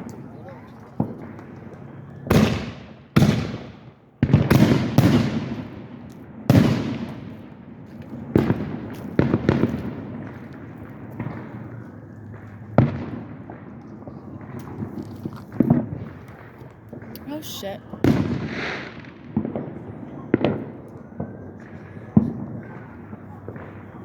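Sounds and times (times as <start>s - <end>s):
fireworks bangs with rumbling tail: 0.0s - 24.0s.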